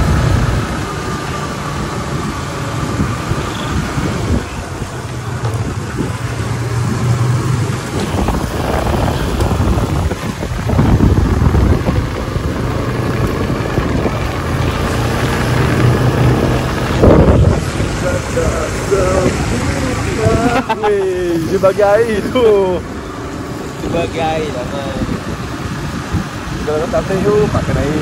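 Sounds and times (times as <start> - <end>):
motorcycle engine drone: 0.0 - 28.0
wind rushing over microphone: 0.0 - 28.0.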